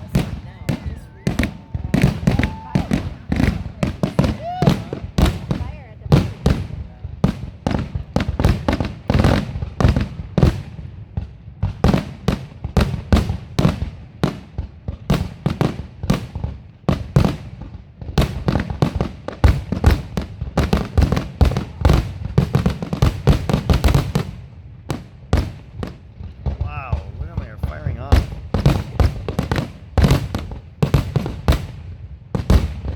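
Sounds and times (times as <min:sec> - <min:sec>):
fireworks bursts and bangs: 0:00.0 - 0:32.9.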